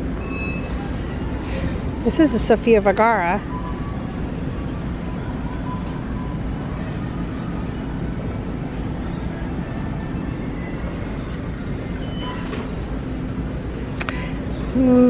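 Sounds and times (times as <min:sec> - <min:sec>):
store background rumble: 0:00.0 - 0:15.0.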